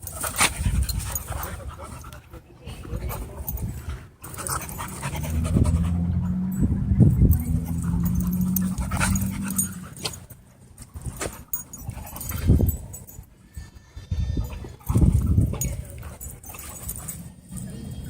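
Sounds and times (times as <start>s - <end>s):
dogs panting: 0.0s - 13.4s, 14.1s - 18.0s.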